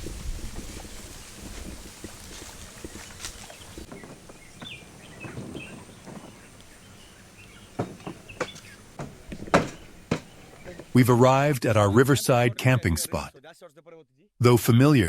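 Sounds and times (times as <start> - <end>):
outdoor ambience: 0.0 - 13.3.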